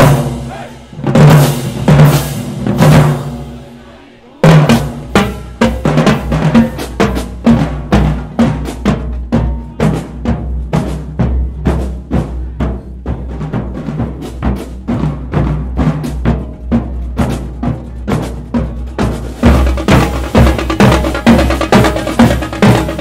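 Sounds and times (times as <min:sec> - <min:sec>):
drumline playing march cadence: 0:00.0 - 0:23.0.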